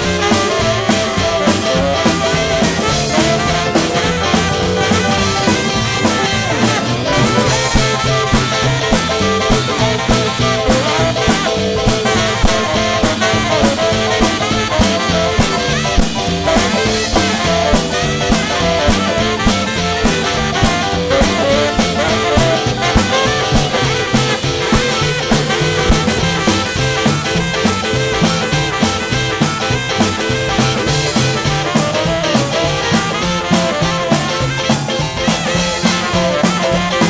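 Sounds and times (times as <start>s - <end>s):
live swing band playing: 0.0s - 37.0s.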